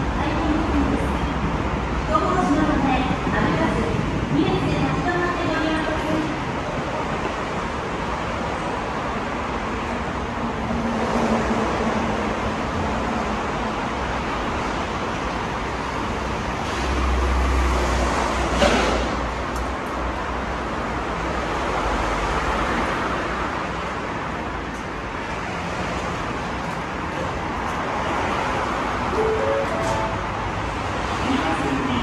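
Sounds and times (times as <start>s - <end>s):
low train rumble: 0.0s - 32.0s
platform hum and bustle: 0.0s - 32.0s.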